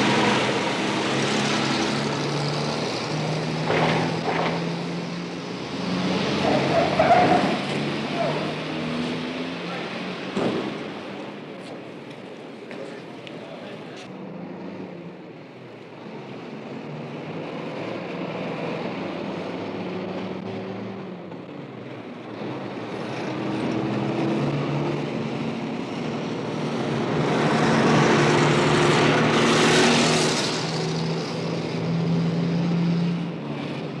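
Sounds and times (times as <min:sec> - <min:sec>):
vehicle engines running: 0:00.0 - 0:34.0.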